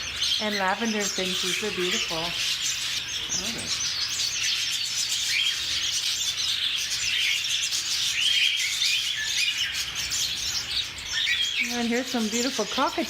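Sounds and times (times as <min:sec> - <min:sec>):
finches chirping and twittering: 0:00.0 - 0:13.0.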